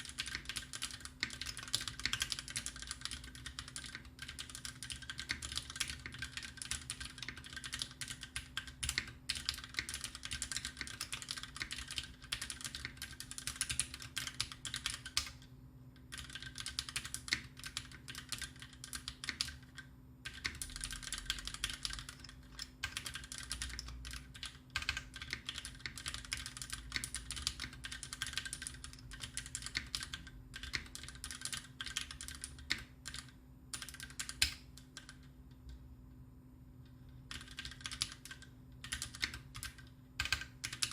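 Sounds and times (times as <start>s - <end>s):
mechanical keyboard typing: 0.0s - 15.4s, 16.1s - 35.3s, 37.3s - 40.9s.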